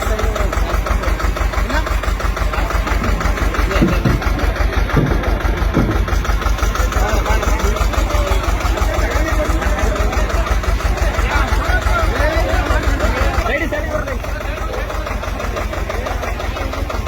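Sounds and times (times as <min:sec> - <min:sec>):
tractor engine chugging: 0:00.0 - 0:17.0.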